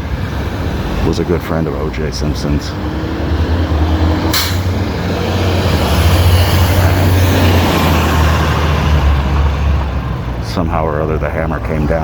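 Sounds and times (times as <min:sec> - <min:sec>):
motor vehicle passing rumble: 0:00.0 - 0:12.0.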